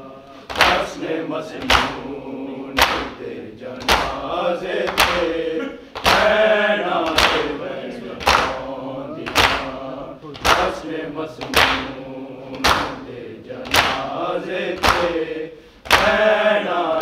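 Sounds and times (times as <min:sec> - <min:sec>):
voices chanting a lament: 0:00.0 - 0:17.0.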